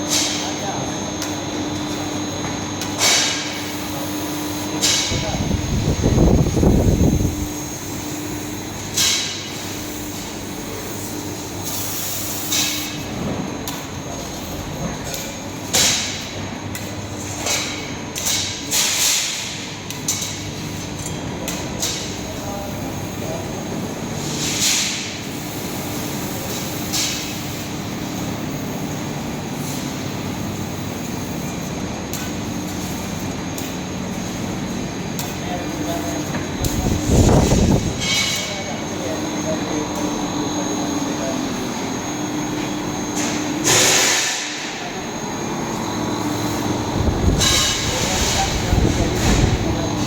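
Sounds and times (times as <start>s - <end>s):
laser cutting machine humming: 0.0s - 50.0s.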